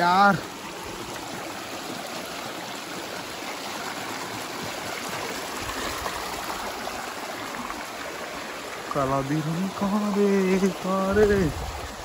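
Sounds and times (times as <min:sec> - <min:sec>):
stream splashing over rocks: 0:00.0 - 0:12.0.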